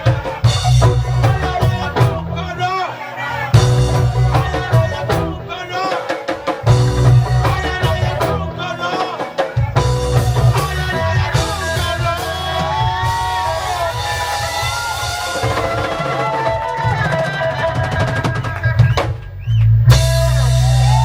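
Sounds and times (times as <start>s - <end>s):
reggae band playing: 0.0s - 21.0s.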